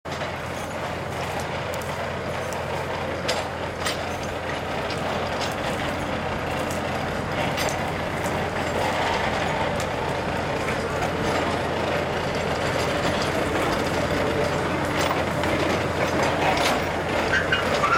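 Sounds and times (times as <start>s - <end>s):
diesel engine running: 0.1s - 17.9s.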